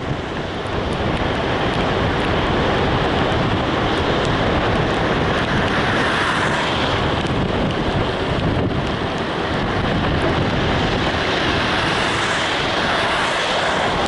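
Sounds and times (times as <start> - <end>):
rushing wind: 0.0 - 14.0
vehicle road noise: 0.0 - 14.0.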